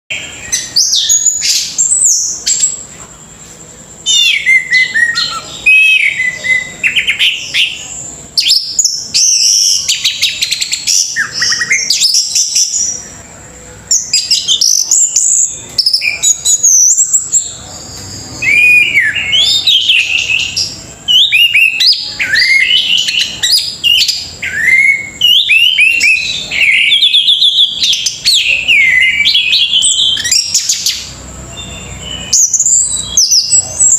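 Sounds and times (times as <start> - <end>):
thrush singing whistled song: 0.1 - 3.0, 3.9 - 33.9.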